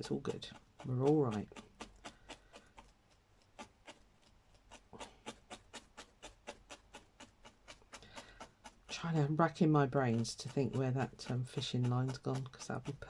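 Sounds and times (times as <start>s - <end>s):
felting needle poking foam: 0.0s - 13.0s.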